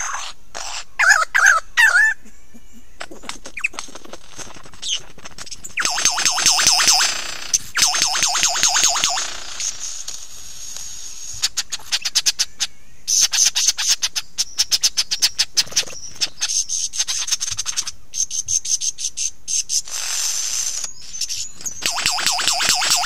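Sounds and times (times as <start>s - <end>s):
lyrebird clicking song: 3.0s - 10.0s, 10.8s - 23.0s.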